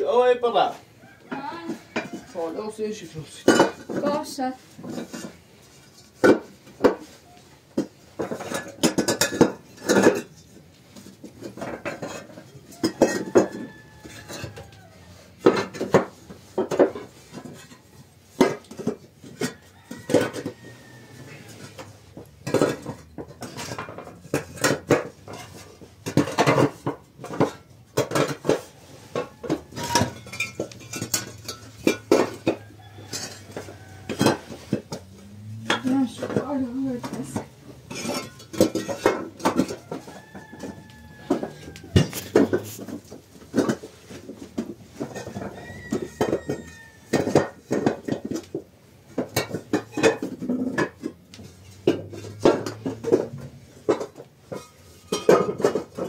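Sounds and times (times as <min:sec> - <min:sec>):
clay bricks clinking and knocking: 0:01.3 - 0:02.5, 0:03.1 - 0:56.0.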